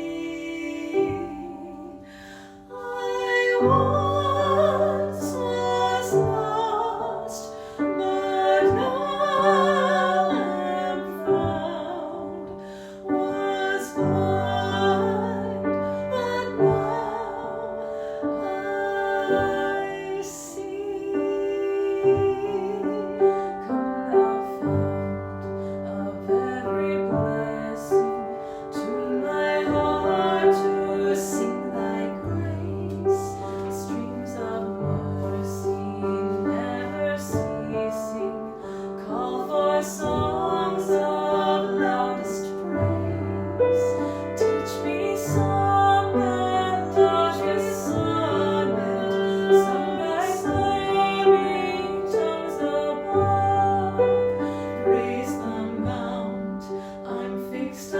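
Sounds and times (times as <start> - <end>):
piano accompaniment: 0.0 - 57.9
women singing a sacred song: 0.0 - 57.9.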